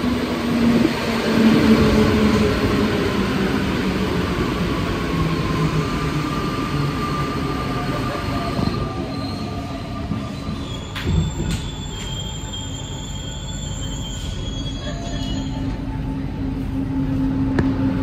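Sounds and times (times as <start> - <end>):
metro car rumble and hiss: 0.0 - 18.0.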